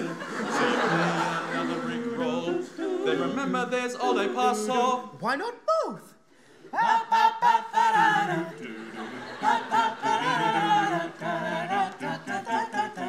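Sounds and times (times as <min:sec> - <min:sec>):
a cappella group singing: 0:00.0 - 0:05.2, 0:06.6 - 0:13.0.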